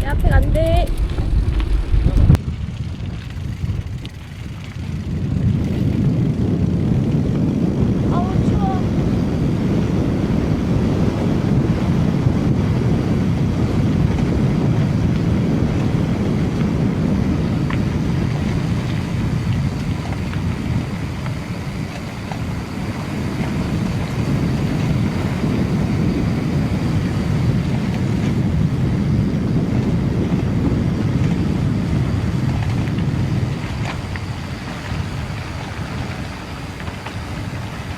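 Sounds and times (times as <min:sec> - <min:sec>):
wind on microphone: 0:00.0 - 0:37.9.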